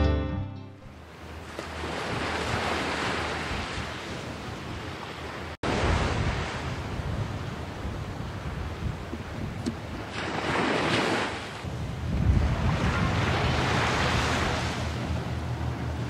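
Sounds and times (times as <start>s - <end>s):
sea surf breaking on rocks: 1.4s - 15.1s
wind buffeting microphone: 1.8s - 16.0s.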